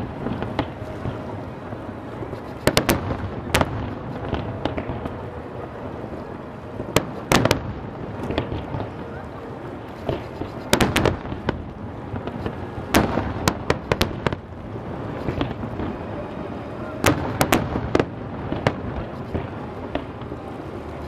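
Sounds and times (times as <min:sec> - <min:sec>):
fireworks bursting bangs: 0:00.0 - 0:06.2, 0:06.8 - 0:09.2, 0:09.8 - 0:16.2, 0:16.9 - 0:20.3
steady rumbling noise: 0:00.0 - 0:21.0.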